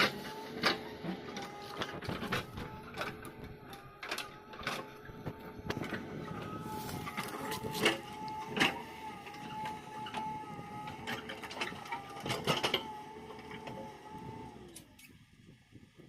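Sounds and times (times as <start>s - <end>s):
machine whining: 0.0s - 16.0s.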